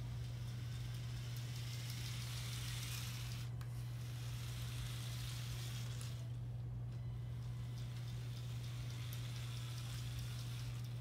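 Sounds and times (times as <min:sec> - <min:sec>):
steady low hum: 0:00.0 - 0:11.0
toy truck motors whirring: 0:00.0 - 0:11.0.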